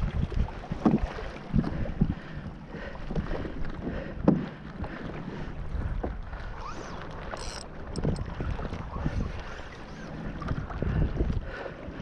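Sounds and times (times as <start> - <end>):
waves slapping kayak hull: 0.0 - 12.0
wind buffeting microphone: 0.0 - 12.0.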